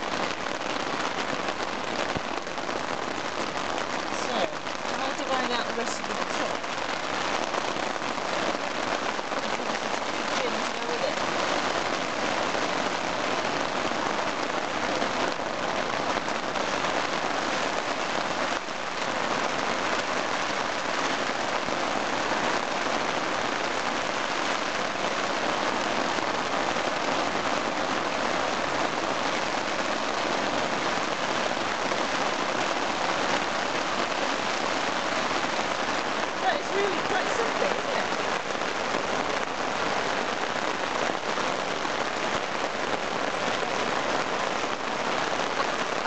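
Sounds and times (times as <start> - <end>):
rain on a tent: 0.0 - 46.0.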